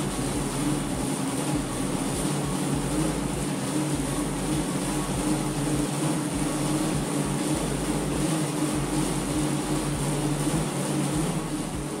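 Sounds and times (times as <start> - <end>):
bike tyres whirring on rollers: 0.0 - 12.0.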